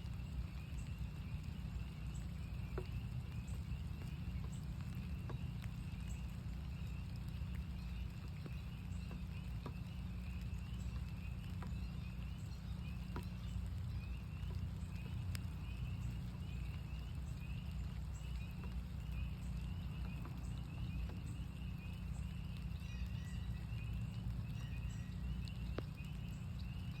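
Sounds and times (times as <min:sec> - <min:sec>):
raindrop ticks: 0:00.0 - 0:27.0
spring peepers chorus: 0:00.0 - 0:27.0
steady low rumble: 0:00.0 - 0:27.0.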